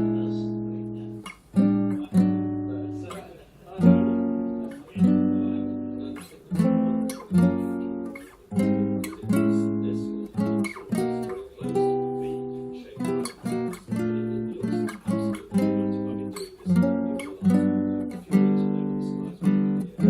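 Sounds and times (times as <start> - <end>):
guitar chords strummed: 0.0 - 20.0.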